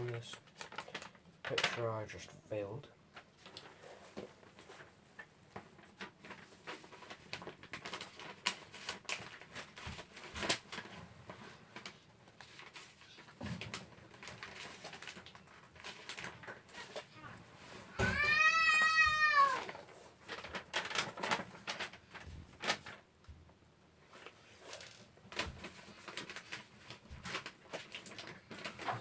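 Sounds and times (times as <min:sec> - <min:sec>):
paper rustling: 0:00.0 - 0:02.3, 0:03.2 - 0:23.0, 0:24.0 - 0:29.0.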